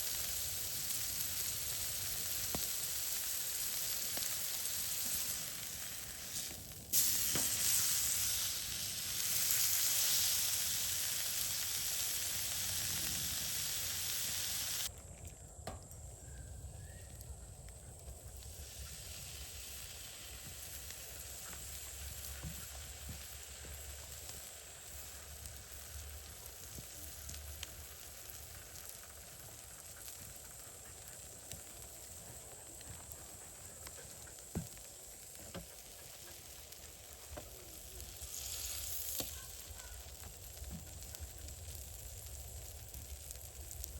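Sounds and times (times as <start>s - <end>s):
food sizzling over campfire: 0.0s - 15.0s, 16.1s - 43.9s
fire crackling: 0.0s - 43.9s.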